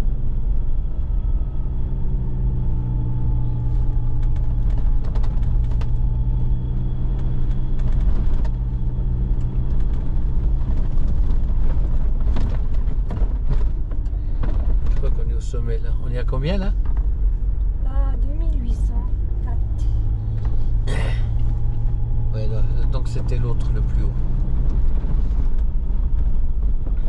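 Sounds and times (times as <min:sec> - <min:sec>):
vehicle engine running: 0:00.0 - 0:27.0
light clicks and knocks from vehicle: 0:02.8 - 0:17.8, 0:19.2 - 0:27.0.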